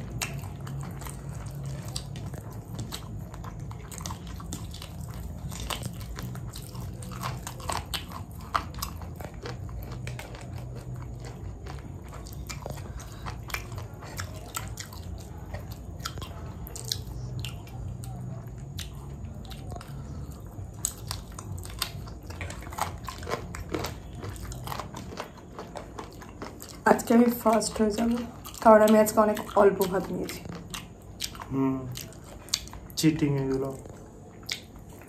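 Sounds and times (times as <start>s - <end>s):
person chewing crunchy food: 0.0s - 35.0s
steady low hum: 0.0s - 35.0s.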